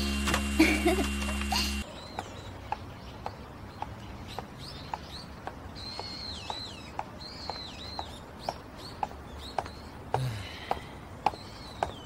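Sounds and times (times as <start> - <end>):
birds chirping: 0.0 - 12.0
footsteps on pavement: 0.3 - 12.0.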